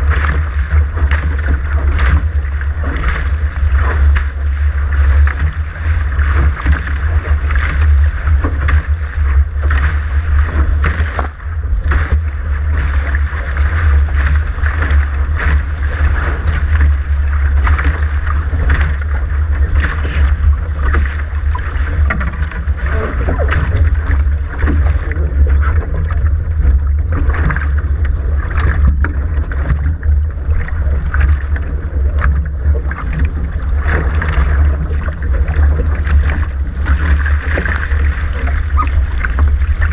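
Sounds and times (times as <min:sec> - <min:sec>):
water rushing along hulls: 0:00.0 - 0:39.9
wind buffeting microphone: 0:00.0 - 0:39.9.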